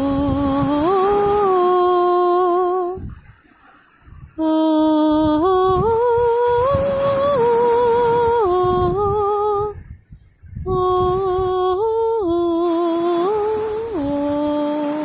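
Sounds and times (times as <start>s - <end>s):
woman humming long notes: 0.0s - 3.0s, 4.4s - 9.8s, 10.7s - 15.0s.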